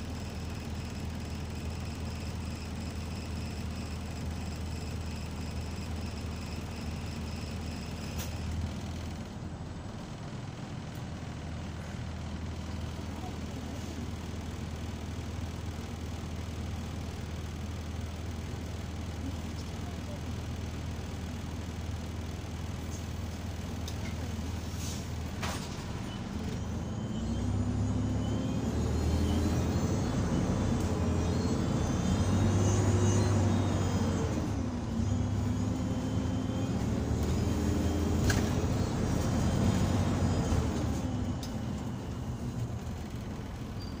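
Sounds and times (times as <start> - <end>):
bus engine accelerating with whine: 0.0 - 44.0.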